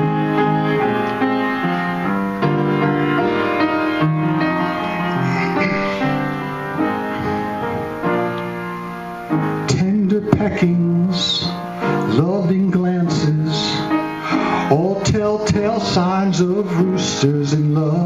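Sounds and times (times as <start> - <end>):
piano playing sustained chords: 0.0 - 18.0.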